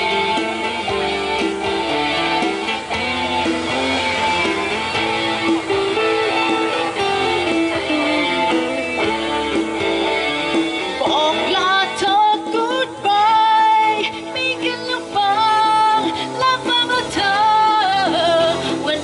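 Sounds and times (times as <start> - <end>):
electric guitar pop instrumental: 0.0 - 19.0.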